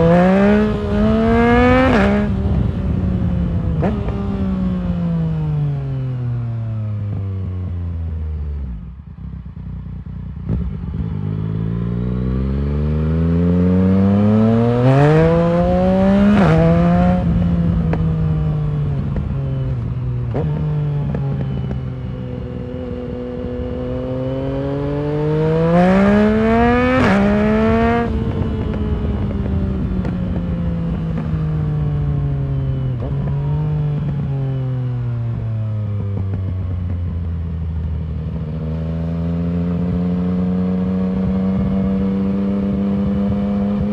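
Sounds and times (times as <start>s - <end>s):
motorcycle engine revving through gears: 0.0s - 43.9s.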